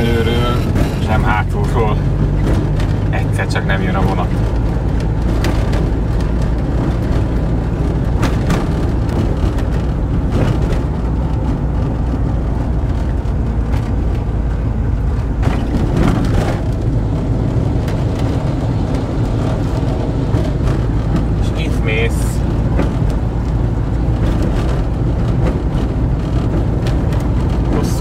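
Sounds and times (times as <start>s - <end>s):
road rumble: 0.0s - 28.0s
van engine driving: 0.0s - 28.0s
knocks and rattles: 0.6s - 28.0s.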